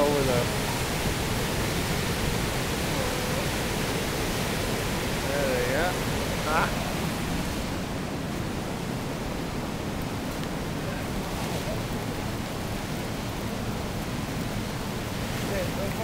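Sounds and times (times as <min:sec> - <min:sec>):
ice and meltwater rushing: 0:00.0 - 0:16.0.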